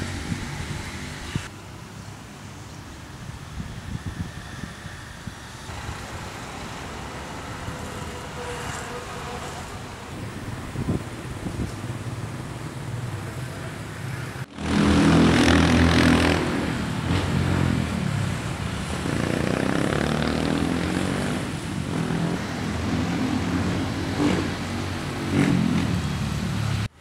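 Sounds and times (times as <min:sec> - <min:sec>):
street hum: 0:00.0 - 0:27.0
vehicles driving past: 0:00.0 - 0:27.0.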